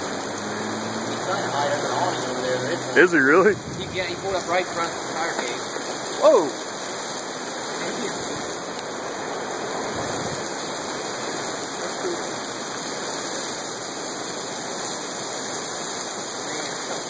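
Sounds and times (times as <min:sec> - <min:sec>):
hail and heavy rain on pavement: 0:00.0 - 0:17.0.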